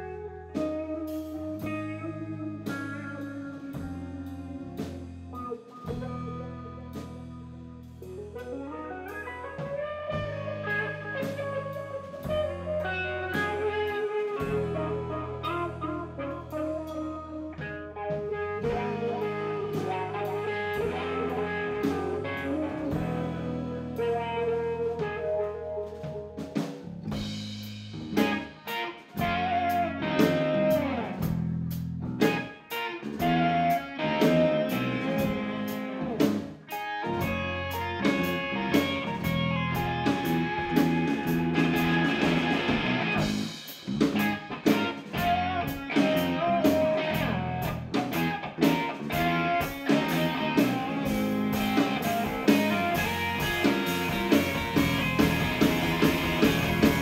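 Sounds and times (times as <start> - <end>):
electric guitar: 0.0 - 57.0
drum kit beat: 0.6 - 57.0.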